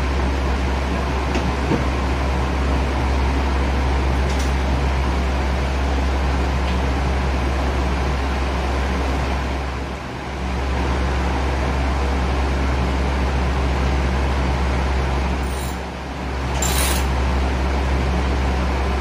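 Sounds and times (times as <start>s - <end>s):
mechanical hum and hiss: 0.0s - 19.0s.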